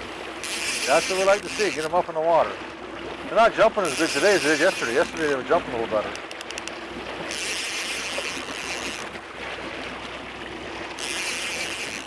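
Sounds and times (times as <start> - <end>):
boat engine running: 0.0 - 12.0
water rushing past hull: 0.0 - 12.0.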